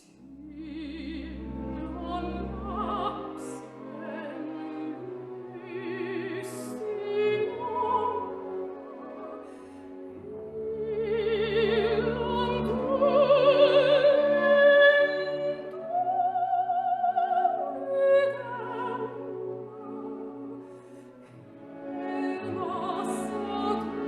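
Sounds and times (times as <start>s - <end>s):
orchestral accompaniment: 0.0s - 24.0s.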